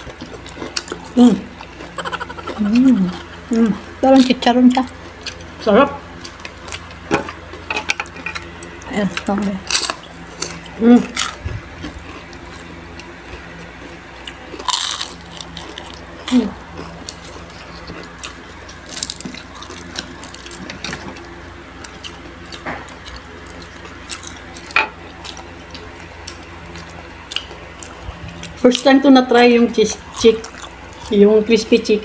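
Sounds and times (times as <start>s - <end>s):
chewing: 0.0s - 28.9s, 29.9s - 31.3s
crunching crispy fried food: 0.0s - 31.3s
steady low hum: 0.0s - 32.0s.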